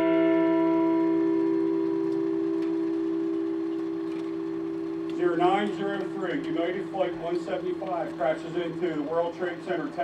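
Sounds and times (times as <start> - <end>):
large bell ringing: 0.0 - 10.0.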